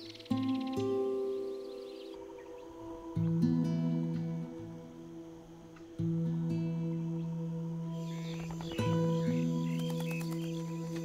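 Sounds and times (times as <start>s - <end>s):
low sustained chord: 0.0s - 11.0s.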